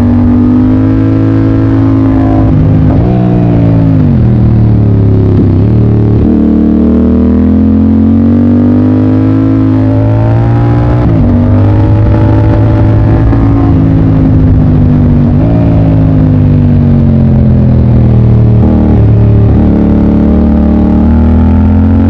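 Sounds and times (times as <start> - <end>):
motorcycle engine running hard: 0.0 - 22.0.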